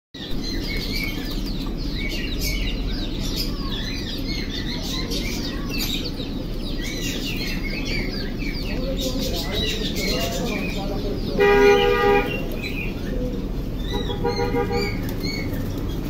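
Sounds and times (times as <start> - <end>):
young quail chirping: 0.2 - 16.0.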